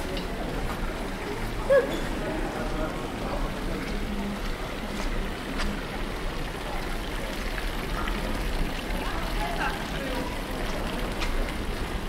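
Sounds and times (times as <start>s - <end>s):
faint indistinct voices: 0.0s - 12.0s.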